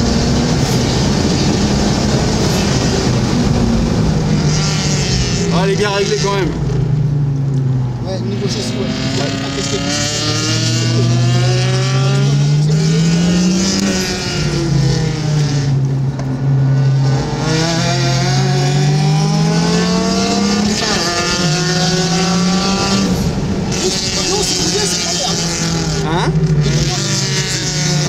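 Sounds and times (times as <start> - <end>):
car engine revving in cabin: 0.0 - 28.0.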